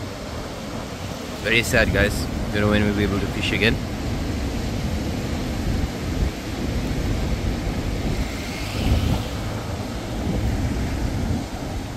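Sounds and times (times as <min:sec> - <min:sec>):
hissing wash of waves: 0:00.0 - 0:11.9
rough surf breaking: 0:00.0 - 0:11.9.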